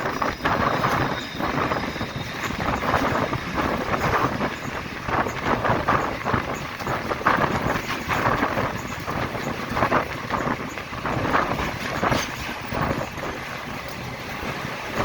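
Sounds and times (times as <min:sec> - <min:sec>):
train rumble: 0:00.0 - 0:15.0
train wheels clattering: 0:00.0 - 0:15.0
wind noise: 0:00.0 - 0:15.0.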